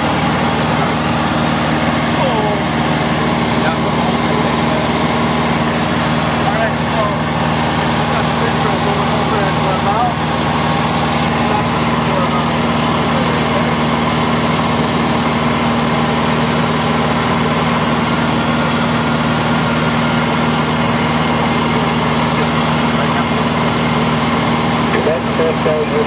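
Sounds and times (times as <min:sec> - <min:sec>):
small plane engine droning in cabin: 0:00.0 - 0:26.0.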